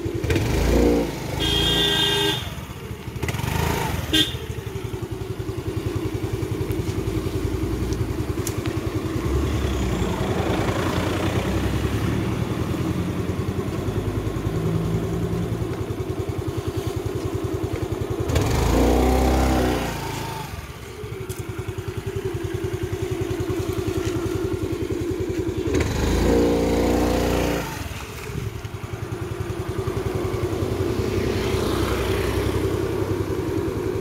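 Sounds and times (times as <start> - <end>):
motor scooter engine idling: 0.0 - 34.0.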